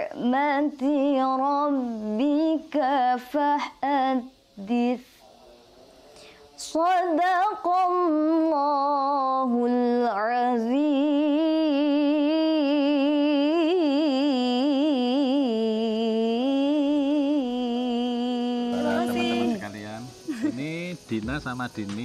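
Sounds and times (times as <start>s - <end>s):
woman reciting melodically: 0.0s - 5.2s, 6.6s - 19.6s.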